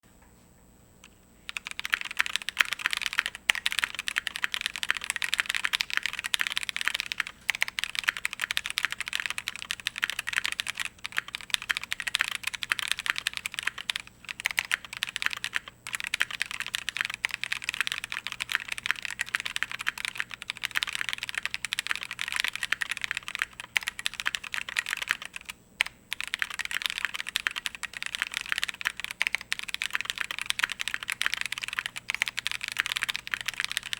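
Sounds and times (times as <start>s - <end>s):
fast mechanical keyboard typing: 1.5s - 33.9s.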